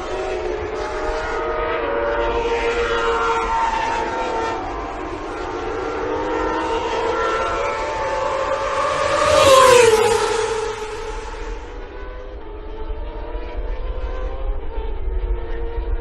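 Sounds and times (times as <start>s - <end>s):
racing motorcycle engines revving: 0.0s - 16.0s.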